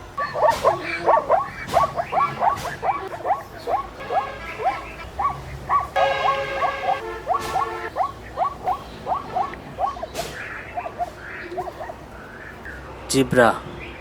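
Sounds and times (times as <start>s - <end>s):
animal drawn-out cry: 0.1s - 12.4s
animal yipping: 0.1s - 12.5s.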